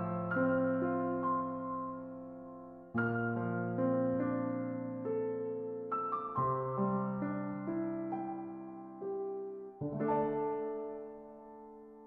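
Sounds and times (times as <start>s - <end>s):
soft slow keyboard music: 0.0s - 12.0s.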